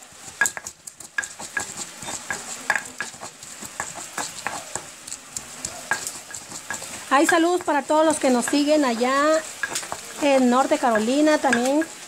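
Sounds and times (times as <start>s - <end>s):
stone pestle grinding in mortar: 0.0s - 12.0s.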